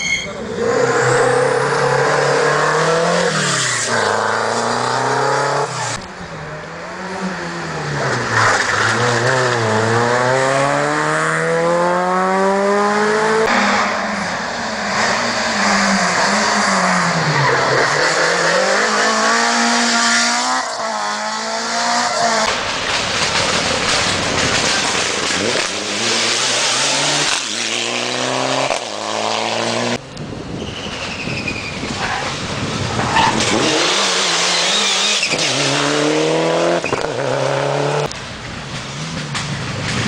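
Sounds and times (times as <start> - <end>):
rally cars passing at speed: 0.4 - 40.0.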